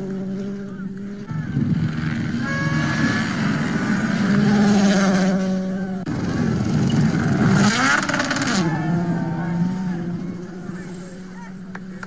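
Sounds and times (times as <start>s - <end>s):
rally car engine running: 0.0s - 12.0s.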